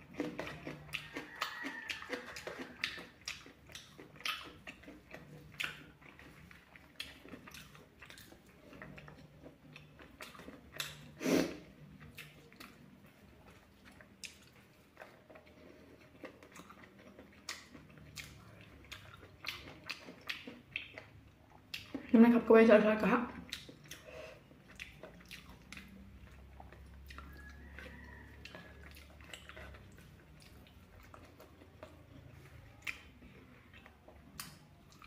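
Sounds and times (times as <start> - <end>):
chewing and biting food: 0.0 - 22.1, 23.4 - 35.0.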